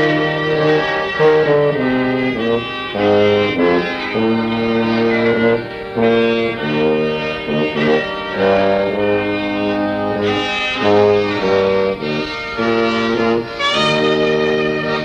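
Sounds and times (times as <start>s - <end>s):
accordion: 0.0s - 15.0s
clarinet: 0.0s - 15.0s
tuba: 0.0s - 15.0s.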